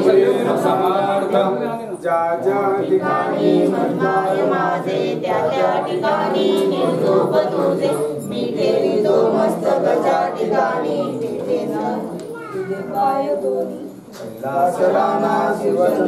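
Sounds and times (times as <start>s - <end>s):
people singing hymn in chorus: 0.0s - 16.0s.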